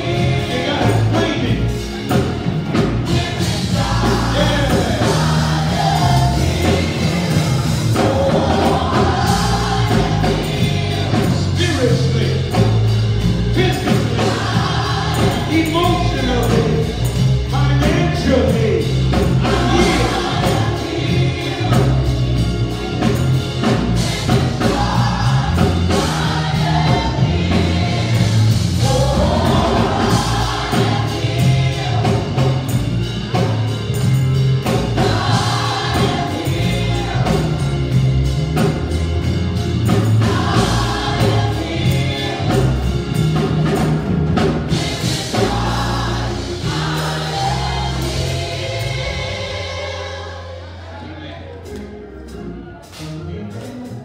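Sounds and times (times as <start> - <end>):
gospel choir singing: 0.0 - 53.6
instrumental accompaniment: 0.0 - 54.0.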